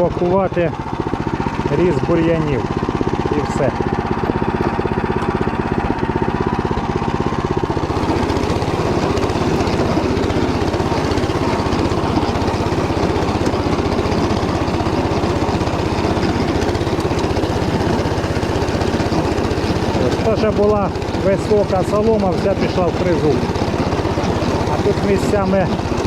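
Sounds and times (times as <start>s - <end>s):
rotary tiller churning soil: 0.0s - 26.0s
tractor engine running under load: 0.0s - 26.0s.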